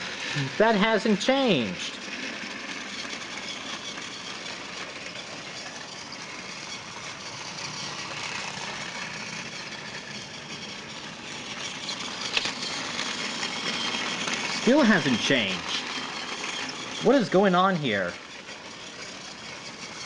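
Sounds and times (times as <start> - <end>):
toy train clicks: 0.0 - 20.0
toy train motor whirring: 0.0 - 20.0.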